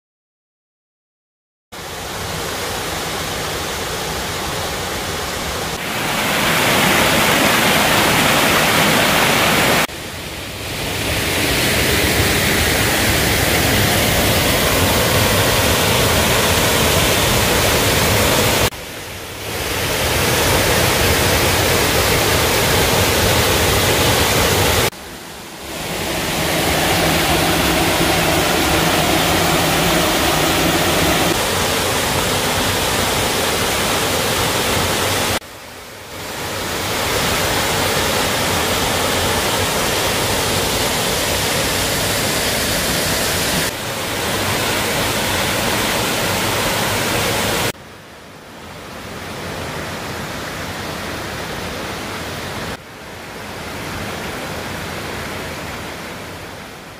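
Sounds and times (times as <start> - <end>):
waterfall and stream rushing: 1.8 - 56.9.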